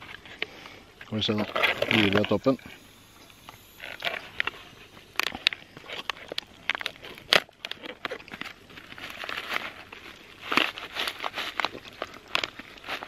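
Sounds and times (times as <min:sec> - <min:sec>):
food pouch tearing and crinkling: 0:01.3 - 0:02.6, 0:03.4 - 0:13.0.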